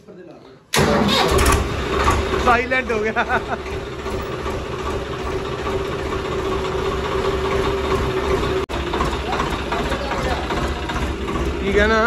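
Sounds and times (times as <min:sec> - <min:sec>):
tractor diesel engine idling: 0:00.8 - 0:12.0.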